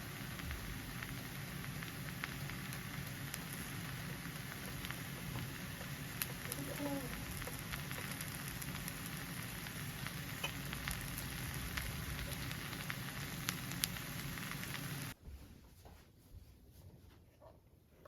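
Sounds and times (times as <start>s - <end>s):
crackling pops: 0.0s - 15.2s
food sizzling on hot plate: 0.0s - 15.2s.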